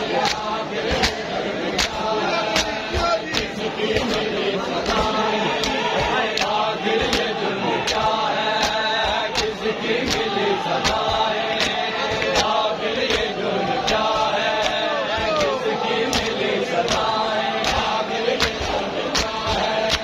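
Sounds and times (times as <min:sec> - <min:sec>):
men chanting a lament: 0:00.0 - 0:20.0
palms slapping chests in unison: 0:00.0 - 0:20.0.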